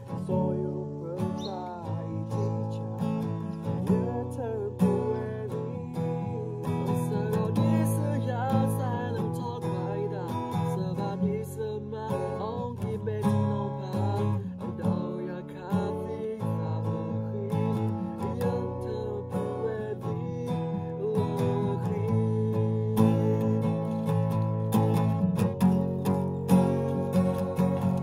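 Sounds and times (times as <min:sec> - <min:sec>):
woman singing: 0:00.0 - 0:24.0
acoustic guitar strumming: 0:00.0 - 0:28.0.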